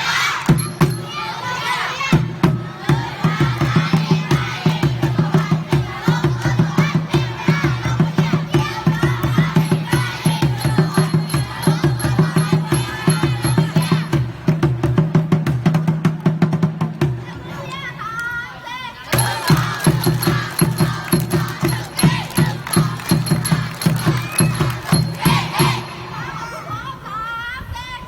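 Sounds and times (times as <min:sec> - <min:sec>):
children shouting and cheering: 0:00.0 - 0:14.2, 0:17.2 - 0:28.0
fast drumbeat: 0:00.5 - 0:01.2, 0:02.2 - 0:17.2, 0:19.2 - 0:26.1.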